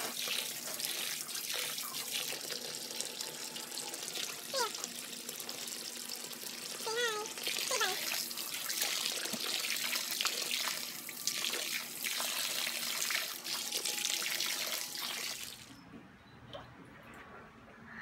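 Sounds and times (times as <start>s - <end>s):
hose water splashing into pool: 0.0s - 3.1s, 4.2s - 15.7s.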